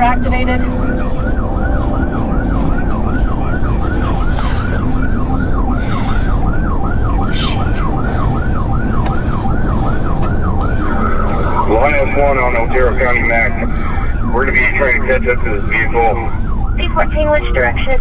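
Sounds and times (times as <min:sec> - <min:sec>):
engine and road noise rumble: 0:00.0 - 0:18.0
police siren yelping: 0:00.0 - 0:18.0.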